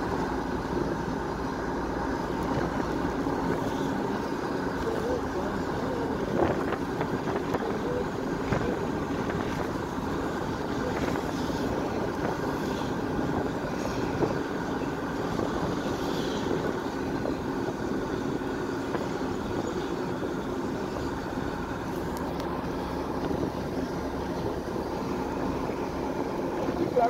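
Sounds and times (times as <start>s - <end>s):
vehicle road noise: 0.0s - 27.0s.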